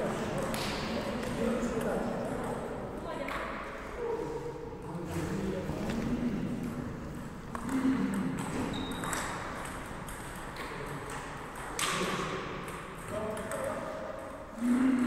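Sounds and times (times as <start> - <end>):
table tennis balls hitting paddles: 0.0 - 3.8, 6.5 - 15.0.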